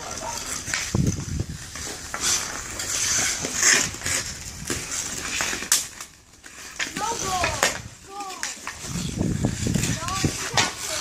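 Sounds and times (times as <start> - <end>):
hockey sticks knocking: 0.0 - 11.0
skate blades scraping ice: 0.0 - 11.0.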